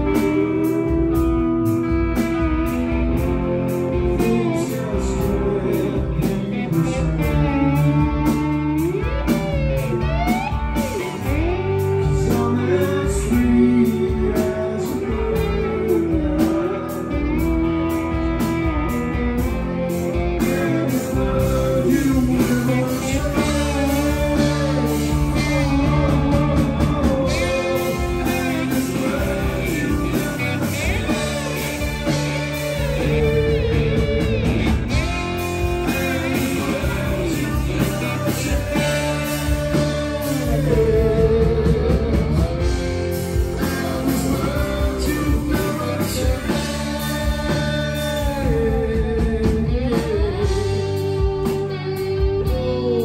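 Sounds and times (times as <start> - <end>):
live rock band playing: 0.0 - 53.0
man singing: 0.0 - 53.0
slide guitar melody: 0.0 - 53.0.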